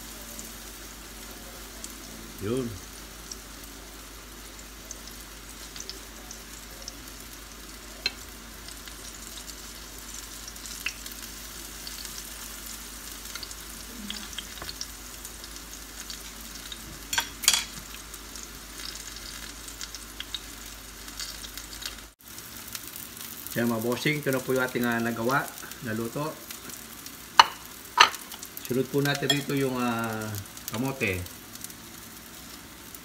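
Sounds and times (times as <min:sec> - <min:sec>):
fritters sizzling in oil: 0:00.0 - 0:33.0.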